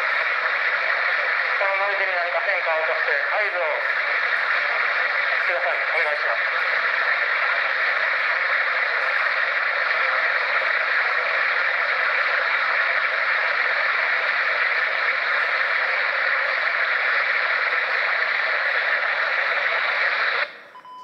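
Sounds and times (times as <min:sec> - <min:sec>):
radio static hiss: 0:00.0 - 0:20.7.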